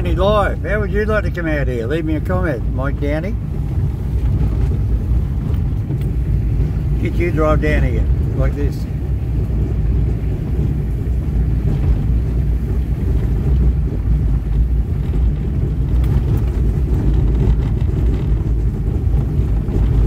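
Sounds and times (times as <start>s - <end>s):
car driving on dirt track: 0.0s - 20.0s.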